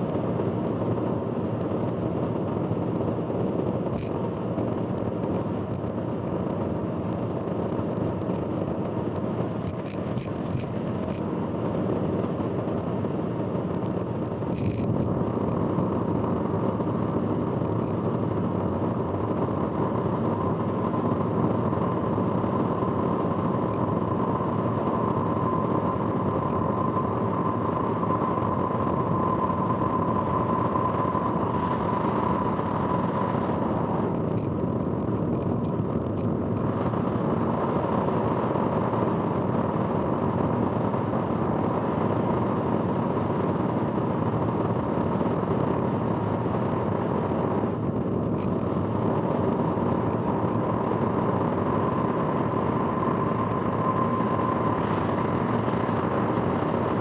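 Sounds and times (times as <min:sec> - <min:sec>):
road and engine noise: 0:00.0 - 0:57.0
thin steady whine: 0:00.0 - 0:57.0.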